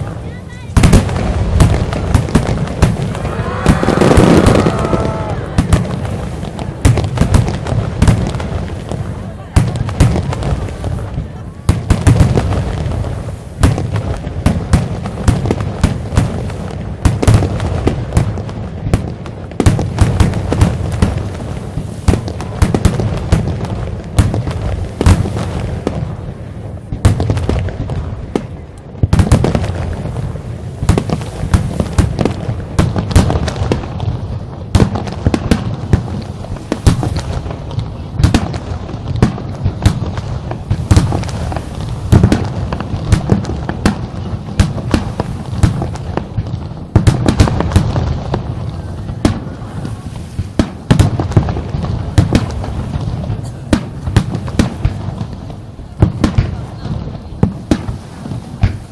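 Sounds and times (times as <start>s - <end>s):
fireworks bangs: 0.0s - 58.9s.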